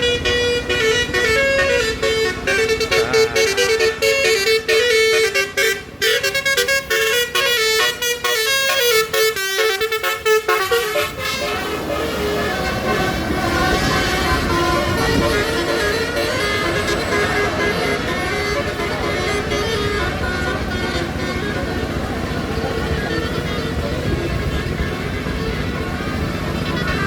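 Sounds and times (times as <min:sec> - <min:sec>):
multi-tone bus horn tune: 0:00.0 - 0:27.0.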